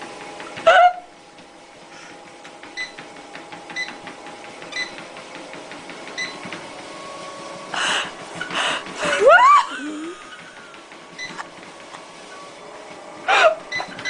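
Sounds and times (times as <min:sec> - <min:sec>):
treadmill whine: 0:00.0 - 0:14.0.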